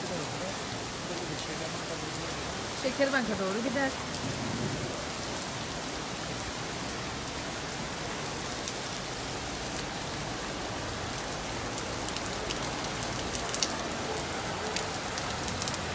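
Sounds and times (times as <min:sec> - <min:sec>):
heavy rain on wet street: 0:00.0 - 0:15.9.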